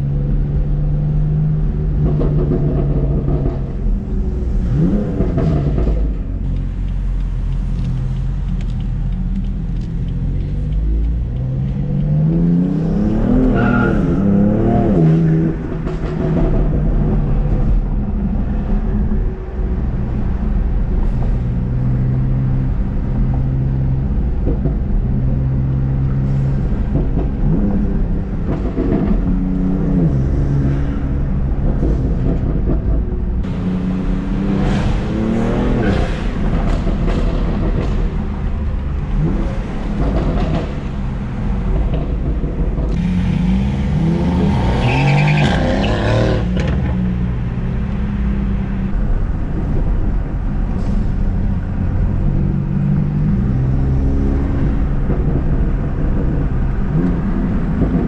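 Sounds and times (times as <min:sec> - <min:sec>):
car engine running and revving: 0:00.0 - 0:58.0.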